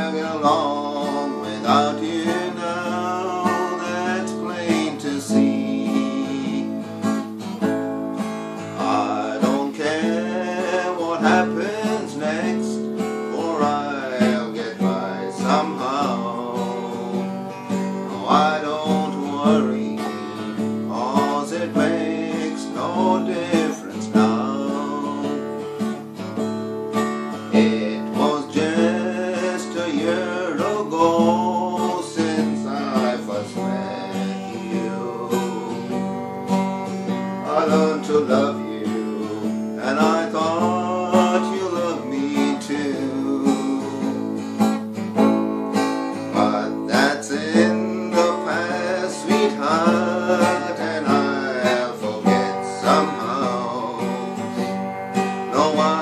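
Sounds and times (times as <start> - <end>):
man singing: 0.0 - 26.2, 27.3 - 56.0
acoustic guitar strumming: 0.0 - 56.0.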